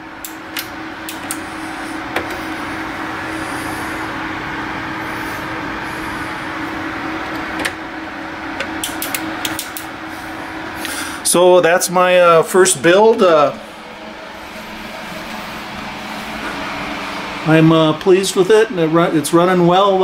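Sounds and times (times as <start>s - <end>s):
computer cooling fans whooshing: 0.0s - 20.0s.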